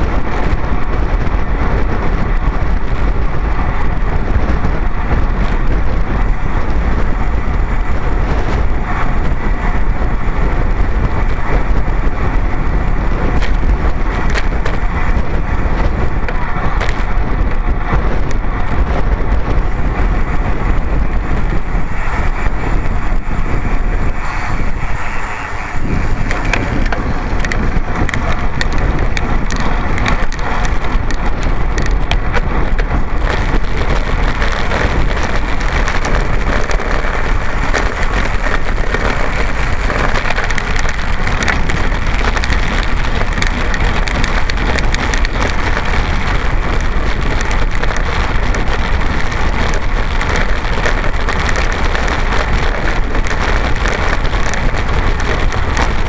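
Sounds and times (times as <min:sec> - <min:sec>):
bicycle rattling over cobblestones: 0:00.0 - 0:56.0
wind on microphone: 0:00.0 - 0:56.0.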